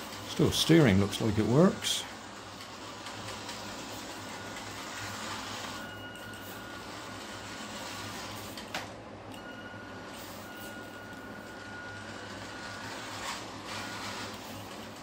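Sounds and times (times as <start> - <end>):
toy car motor whining: 0.0 - 8.7, 9.9 - 15.0.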